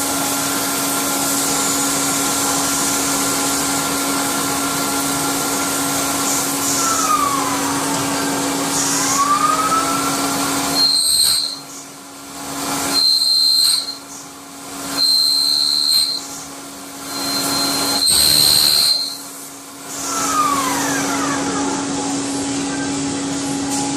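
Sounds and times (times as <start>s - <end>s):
hissing bursts with high whine: 0.0s - 22.6s
milling machine humming: 0.0s - 23.9s.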